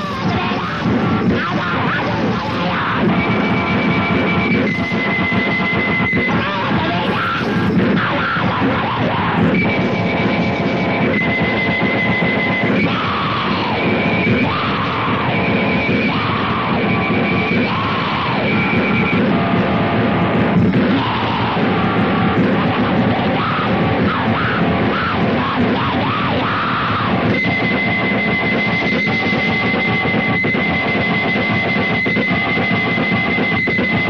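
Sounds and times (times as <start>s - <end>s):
distorted punk music with heavy guitar: 0.0s - 34.0s.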